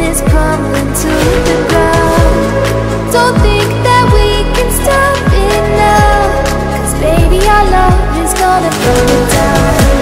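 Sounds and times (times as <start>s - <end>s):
pop music with steady beat: 0.0s - 10.0s
sliding deep bass notes: 0.0s - 10.0s.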